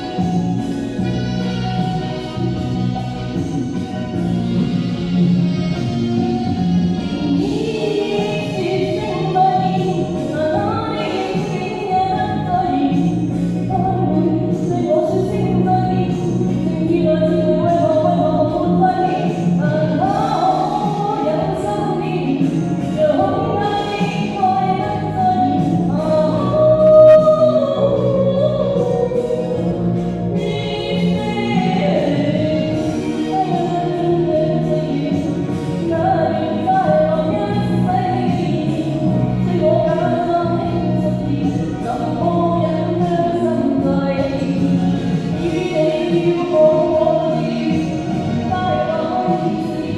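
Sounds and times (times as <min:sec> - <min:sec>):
karaoke backing track: 0:00.0 - 0:49.9
person singing with reverb: 0:07.3 - 0:49.9.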